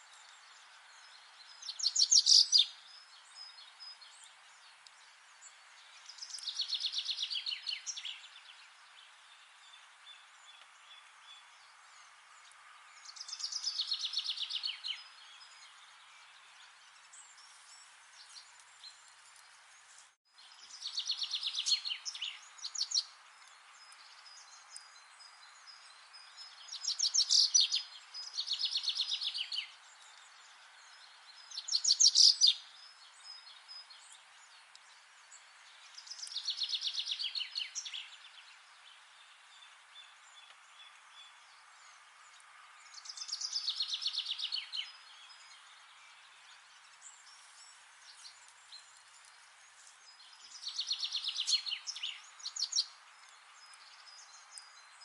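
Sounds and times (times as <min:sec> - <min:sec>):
faint hiss: 0:00.0 - 0:55.0
songbird singing trilled phrases: 0:00.2 - 0:04.8, 0:05.4 - 0:17.5, 0:20.4 - 0:42.0, 0:42.7 - 0:55.0.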